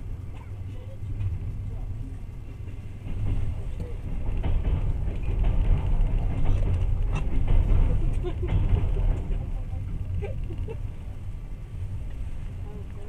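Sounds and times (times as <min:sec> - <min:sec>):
train interior rumble: 0:00.0 - 0:13.0
clacks and rattles: 0:00.2 - 0:13.0.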